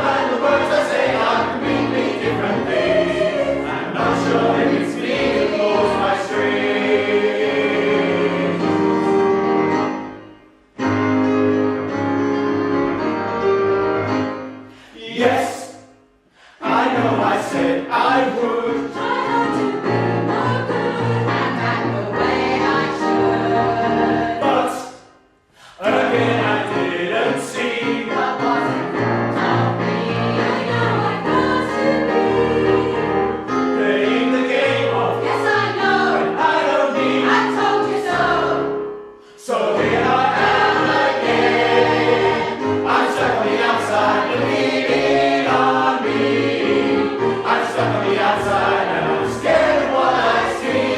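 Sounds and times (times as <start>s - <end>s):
mixed choir singing: 0.0s - 9.7s, 16.5s - 25.0s, 25.7s - 38.8s, 39.4s - 50.9s.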